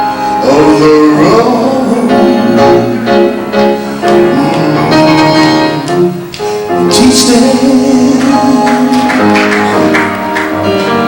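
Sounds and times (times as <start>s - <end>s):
gospel band playing: 0.0s - 11.0s.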